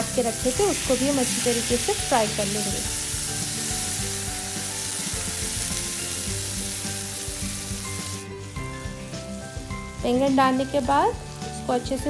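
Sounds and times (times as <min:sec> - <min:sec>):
eggplant slices sizzling in oil: 0:00.0 - 0:12.0.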